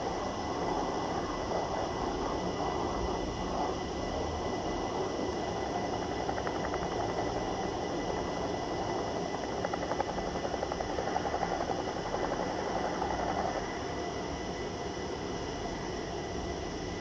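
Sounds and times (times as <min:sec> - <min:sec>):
helicopter hovering: 0:00.0 - 0:14.1.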